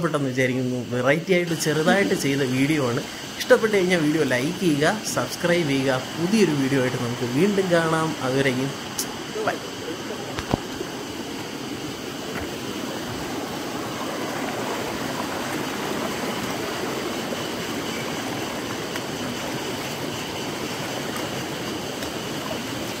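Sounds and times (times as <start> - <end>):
water rushing over rocks: 1.3 - 23.0.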